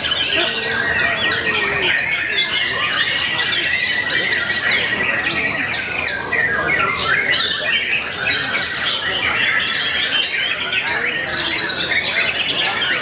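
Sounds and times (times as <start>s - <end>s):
birds singing chorus: 0.0s - 13.0s.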